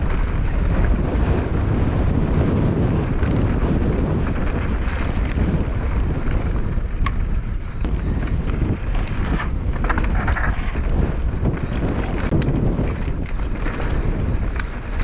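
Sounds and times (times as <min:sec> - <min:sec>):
bike tyres clicking and rattling: 0:00.0 - 0:15.0
wind buffeting microphone: 0:00.0 - 0:15.0.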